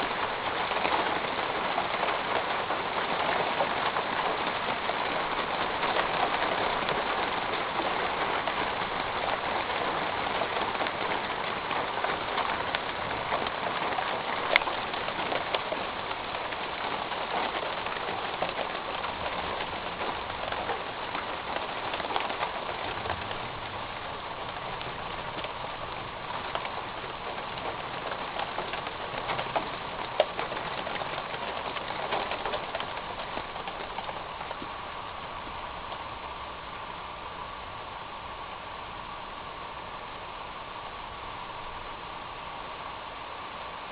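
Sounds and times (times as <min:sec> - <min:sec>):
rain on a metal roof: 0:00.0 - 0:43.9.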